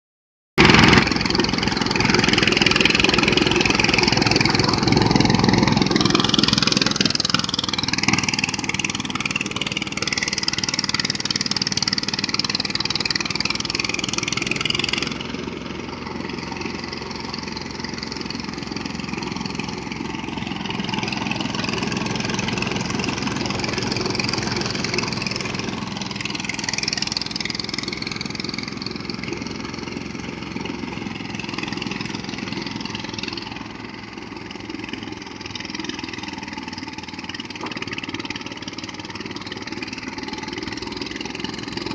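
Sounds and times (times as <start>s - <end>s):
threshing machine engine drone: 0.6s - 41.9s.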